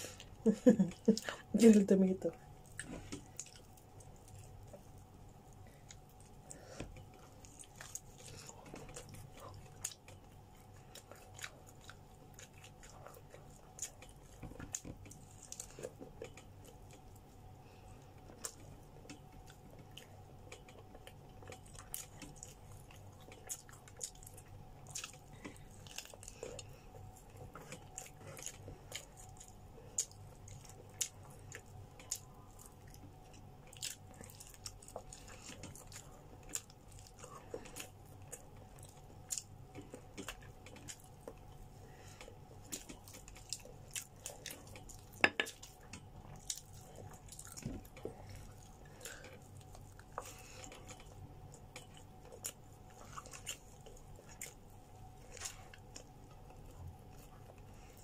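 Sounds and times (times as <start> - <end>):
faint steady hum: 0.0 - 58.0
person chewing food: 0.0 - 58.0.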